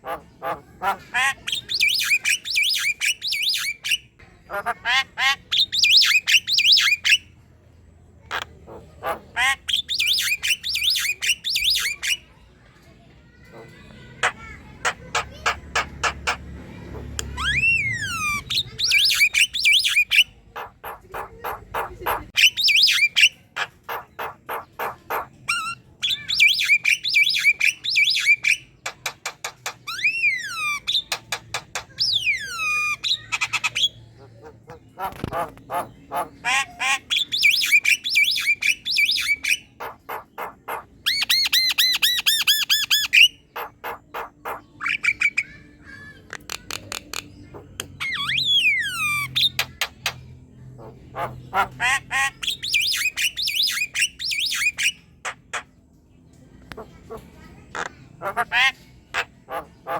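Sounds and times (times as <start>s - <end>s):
myna bird chattering: 0.0s - 7.3s, 8.2s - 12.2s, 13.6s - 55.7s, 56.6s - 59.9s.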